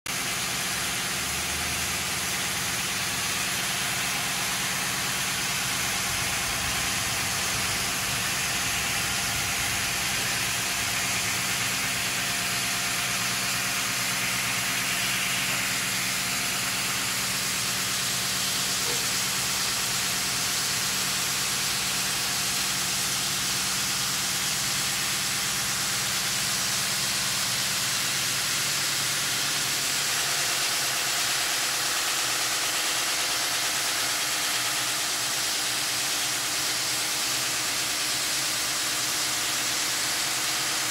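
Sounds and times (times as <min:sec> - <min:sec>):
saw motor hum: 0:00.1 - 0:40.9.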